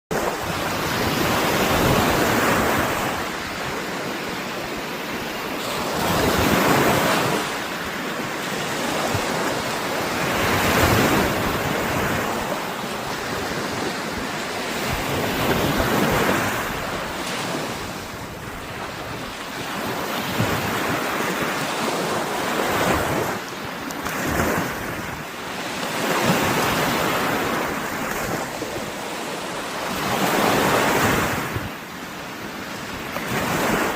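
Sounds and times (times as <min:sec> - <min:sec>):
surf breaking on shore: 0:00.1 - 0:33.9.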